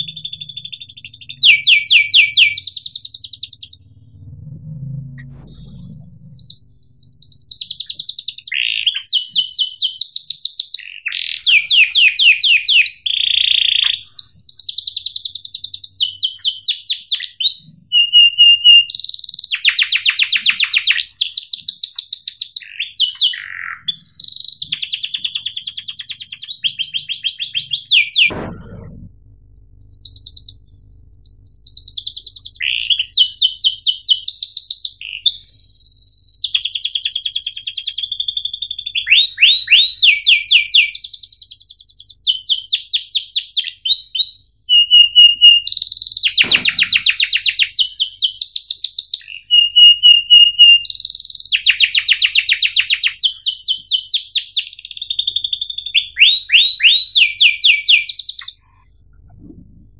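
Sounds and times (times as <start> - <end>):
canary singing trills: 0.0 - 59.5.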